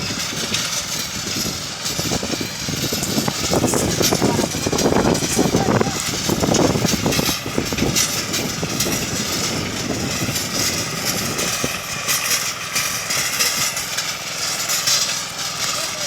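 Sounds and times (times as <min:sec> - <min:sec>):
rototiller through soil: 0:00.0 - 0:16.0
tractor diesel engine running: 0:00.0 - 0:16.0.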